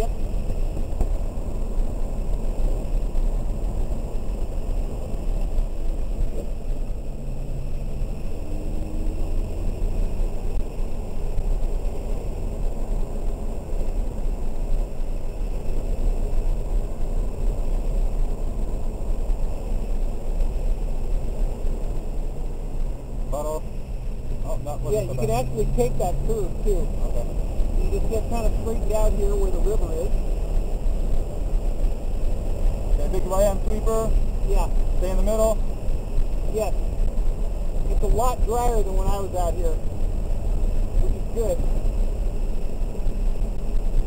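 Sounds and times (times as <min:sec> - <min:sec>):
car engine running under load: 0:00.0 - 0:44.0.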